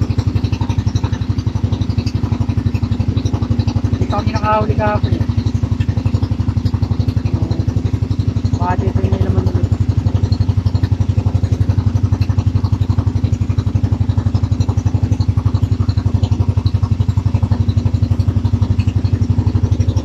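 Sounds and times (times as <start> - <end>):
boat engine chugging: 0.0 - 20.0.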